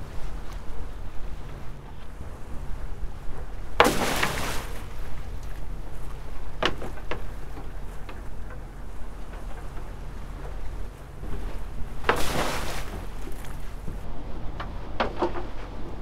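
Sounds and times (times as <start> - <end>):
boat engine hum: 0.0 - 16.0
water splashing against boat: 0.0 - 16.0.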